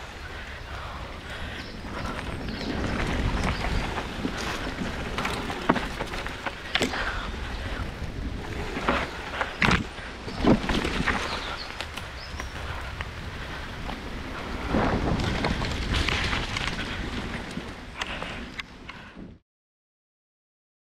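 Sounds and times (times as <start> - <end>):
tyre and wind rumble: 0.0 - 19.4
bike clacking over bumps: 0.7 - 19.0.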